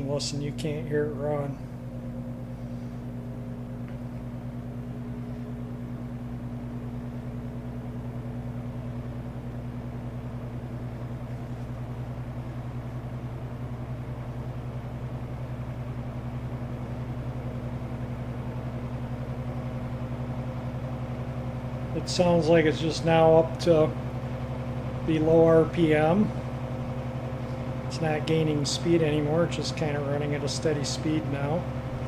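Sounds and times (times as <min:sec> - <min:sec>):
electric fan running: 0:00.0 - 0:32.0.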